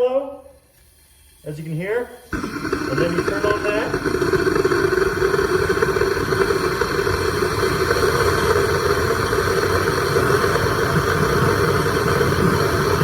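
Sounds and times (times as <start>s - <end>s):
air blower rushing drone: 2.3s - 13.0s.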